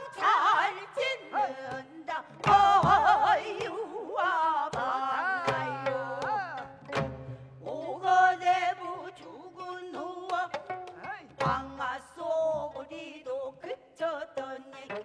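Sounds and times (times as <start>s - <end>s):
woman singing with vibrato: 0.0s - 6.9s, 7.5s - 15.0s.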